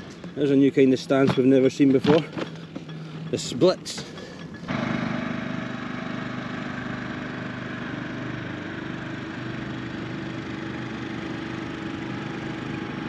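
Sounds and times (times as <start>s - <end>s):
engine idling: 2.5s - 13.0s.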